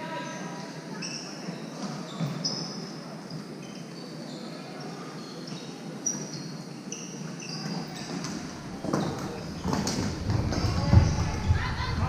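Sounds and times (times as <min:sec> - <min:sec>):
din of play in hall: 0:00.0 - 0:12.0
sneakers squeaking on floor: 0:00.2 - 0:11.7.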